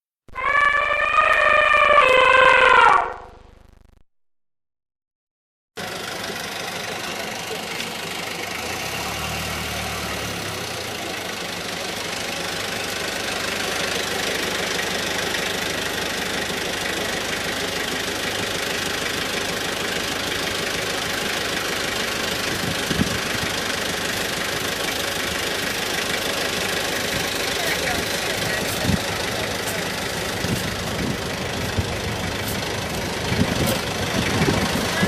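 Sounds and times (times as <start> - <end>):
vehicle engine idling: 5.8 - 35.0.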